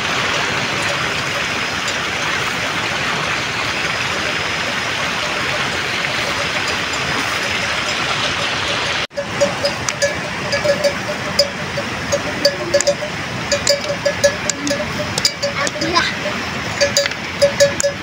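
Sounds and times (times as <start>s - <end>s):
stream water rushing: 0.0s - 18.0s
animal bells clanking: 0.7s - 2.4s, 5.2s - 18.0s.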